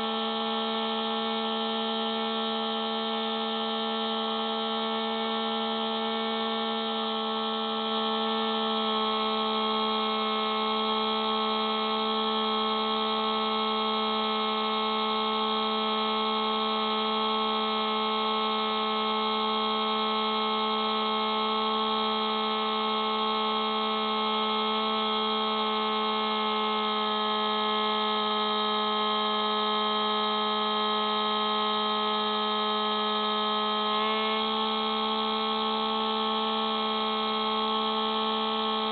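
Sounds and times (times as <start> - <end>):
model plane motor humming: 0.0 - 38.9.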